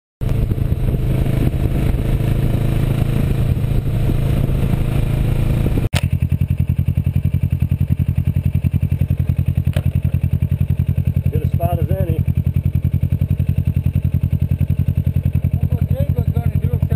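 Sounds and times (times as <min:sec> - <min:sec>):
motorcycle engine running: 0:00.2 - 0:16.9.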